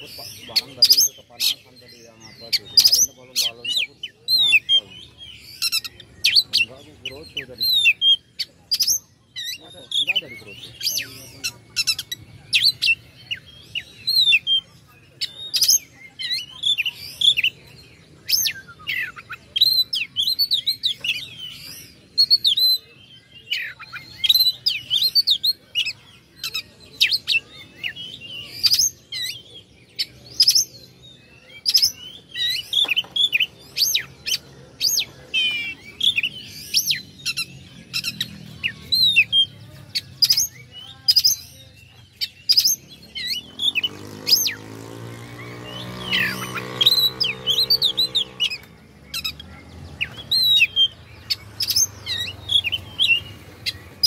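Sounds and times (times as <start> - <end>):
magpie-robin singing: 0.0 - 54.0.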